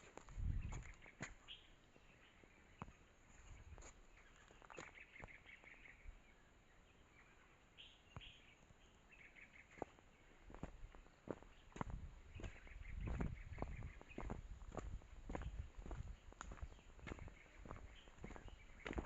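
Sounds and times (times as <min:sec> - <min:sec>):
bird chirping: 0:00.4 - 0:14.4, 0:15.3 - 0:19.0.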